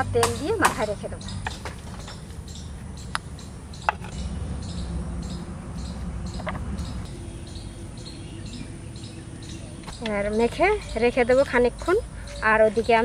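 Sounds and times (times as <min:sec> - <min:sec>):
high chirping of small creatures: 0:00.2 - 0:13.0
low rumble: 0:01.2 - 0:12.2.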